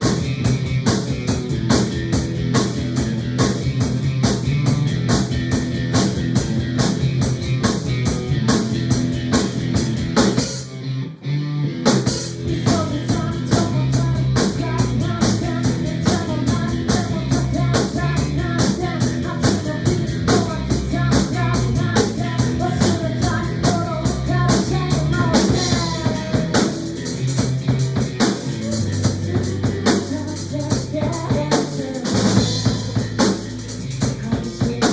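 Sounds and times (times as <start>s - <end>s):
rock music with fast drums: 0.0s - 34.9s.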